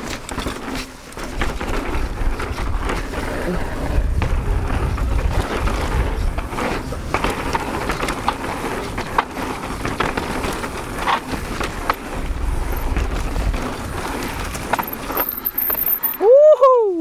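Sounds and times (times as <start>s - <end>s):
bike clacking over bumps: 0.0s - 16.2s
bike tyres rolling on dirt: 0.0s - 16.4s.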